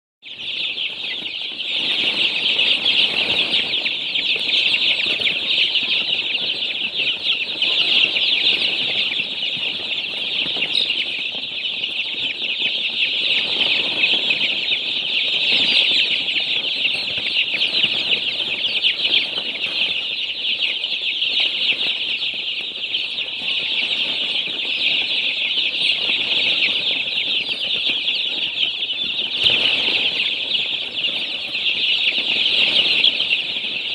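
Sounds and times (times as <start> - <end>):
baby chicks peeping: 0.2 - 33.9.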